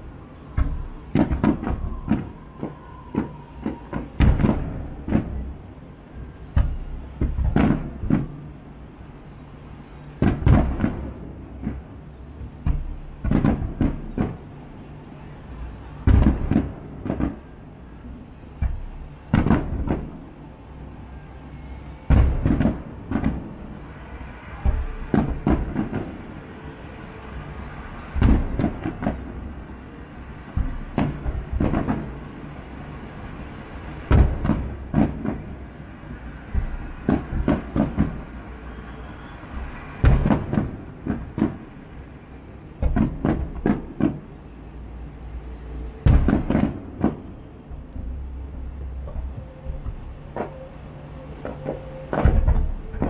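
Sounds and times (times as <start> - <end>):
low city hum: 0.0 - 53.0
fireworks booming and cracking: 0.4 - 9.2, 9.8 - 20.8, 21.4 - 44.6, 45.5 - 53.0.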